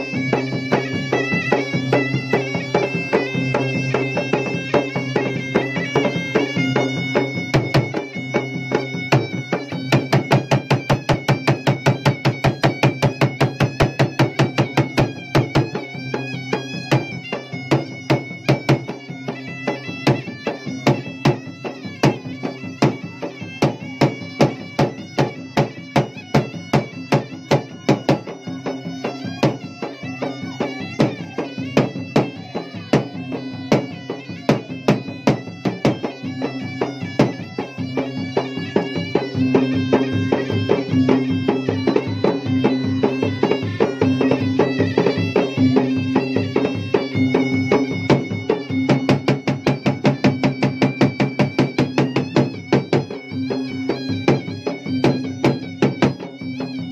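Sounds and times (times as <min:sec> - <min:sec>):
drums beaten with sticks: 0:00.0 - 0:56.9
shrill reedy wind instrument: 0:00.0 - 0:56.9.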